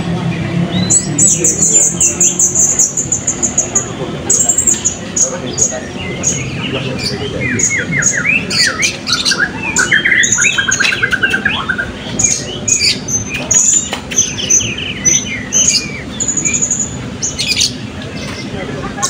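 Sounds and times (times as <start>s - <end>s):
parrots chirping and calling: 0.7s - 19.0s
rapid bird trill: 0.7s - 19.0s.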